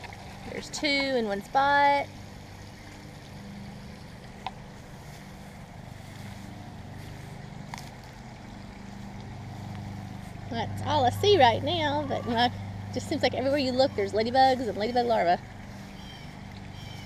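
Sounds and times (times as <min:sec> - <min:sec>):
distant engine humming: 0:00.0 - 0:17.0.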